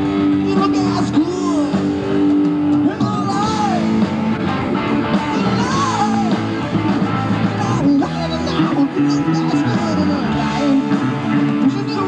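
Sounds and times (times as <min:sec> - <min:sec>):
bass guitar: 0:00.0 - 0:12.0
drum kit: 0:00.0 - 0:12.0
electric guitars: 0:00.0 - 0:12.0.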